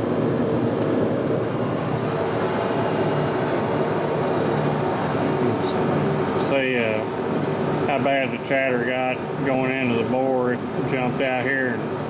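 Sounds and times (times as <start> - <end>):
shop machinery hum: 0.0 - 12.0.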